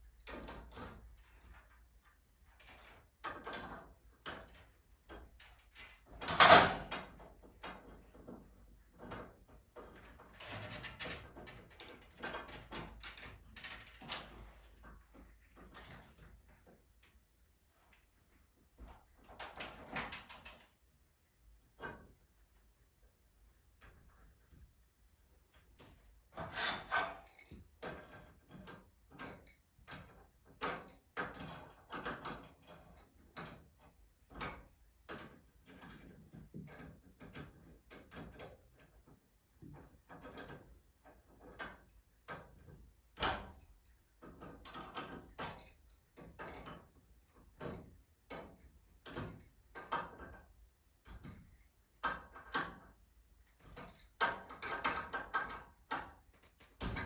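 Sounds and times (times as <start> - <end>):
tools clicking and knocking on metal: 0.1 - 17.2, 25.8 - 57.0.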